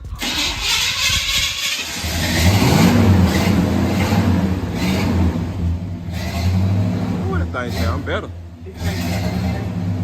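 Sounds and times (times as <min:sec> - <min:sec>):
car engine cranking: 0:00.0 - 0:10.0
car engine deep rumble and revs: 0:00.7 - 0:10.0.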